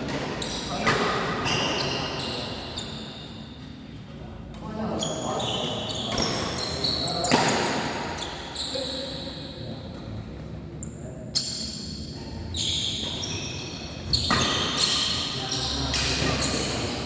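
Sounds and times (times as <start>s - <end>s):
shoe squeaks on court floor: 0.1s - 3.7s, 4.9s - 9.7s, 10.8s - 17.0s.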